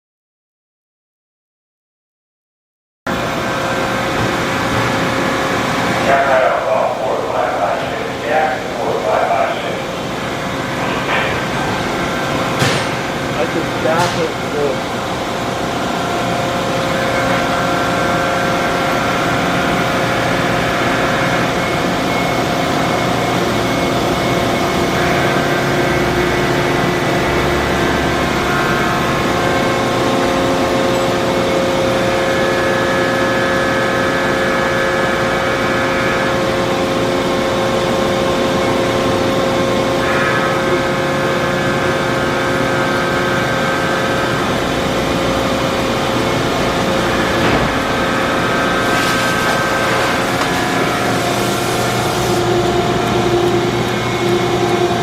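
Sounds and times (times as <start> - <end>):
high whine: 3.1 - 55.0
motor and hydraulic hum: 3.1 - 55.0.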